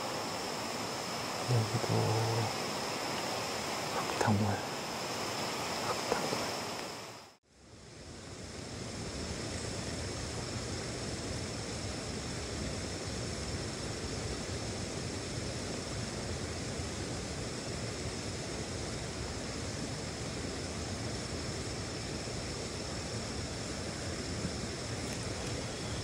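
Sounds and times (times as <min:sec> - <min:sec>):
steady rushing outdoor noise: 0:00.0 - 0:26.0.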